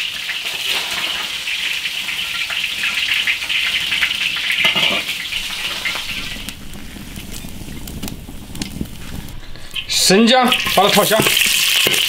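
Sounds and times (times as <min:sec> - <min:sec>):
hot oil sizzling in a wok: 0:00.0 - 0:12.0.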